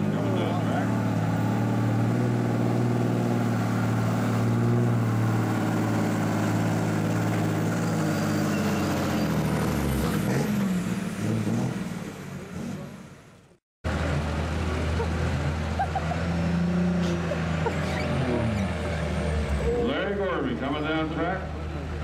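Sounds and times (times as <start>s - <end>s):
diesel truck engine at high revs: 0.0s - 22.0s.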